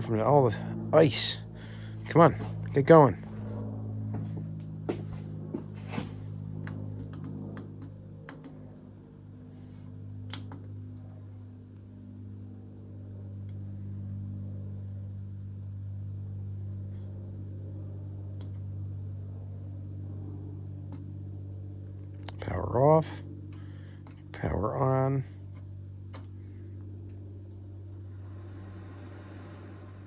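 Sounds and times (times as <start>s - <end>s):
blower motor humming: 0.0s - 30.0s.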